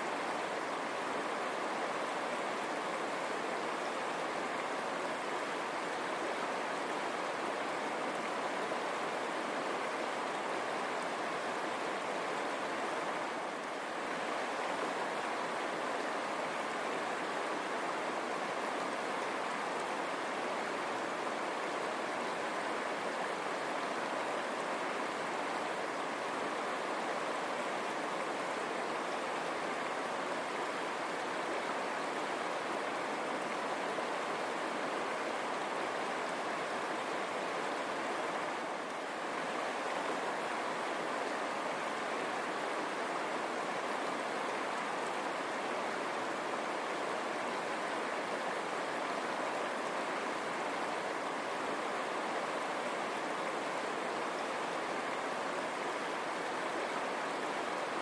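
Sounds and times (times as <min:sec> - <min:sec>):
river water over rocks: 0:00.0 - 0:58.0.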